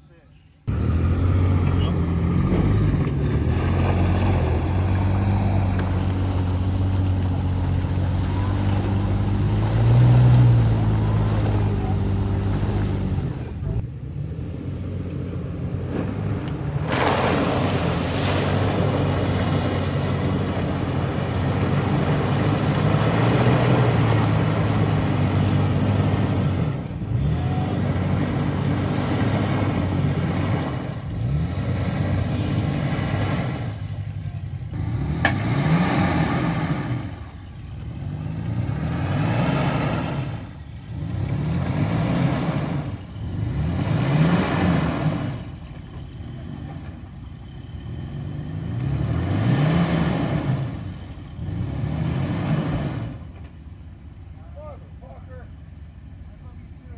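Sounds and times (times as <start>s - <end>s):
truck engine revving: 0.6s - 55.1s
tires spinning in mud: 0.6s - 56.9s.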